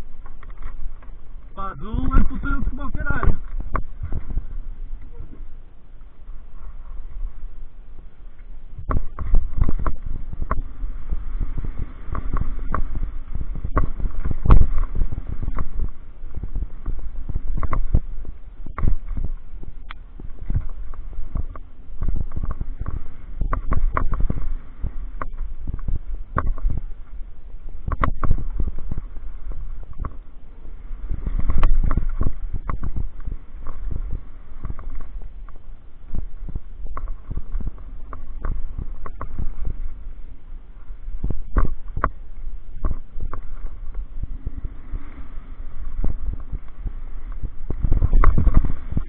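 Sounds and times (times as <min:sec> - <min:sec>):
wind rumble on microphone: 0:00.0 - 0:49.0.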